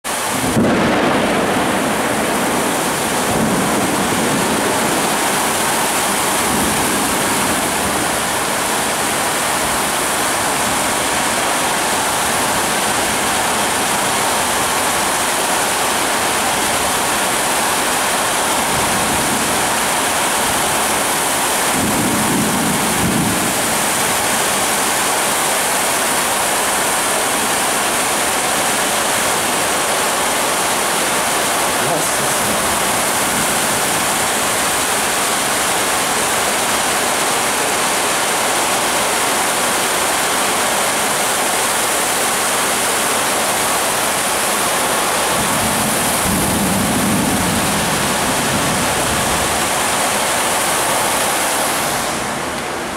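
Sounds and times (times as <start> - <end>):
heavy rain falling: 0.0 - 52.9
thunder rumbling: 0.1 - 37.5, 44.9 - 50.5.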